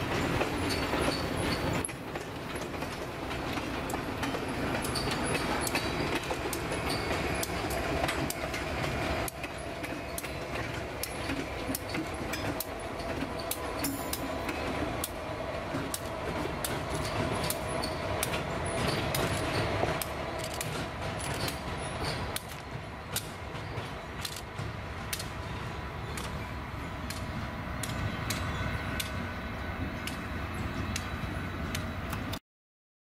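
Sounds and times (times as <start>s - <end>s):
diesel train rumbling past: 0.0s - 32.4s
wheels clicking over rail joints: 0.0s - 32.4s.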